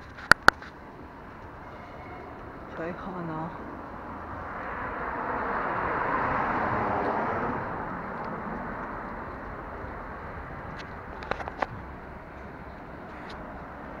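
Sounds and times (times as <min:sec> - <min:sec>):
vehicle passing by: 0:01.6 - 0:14.0.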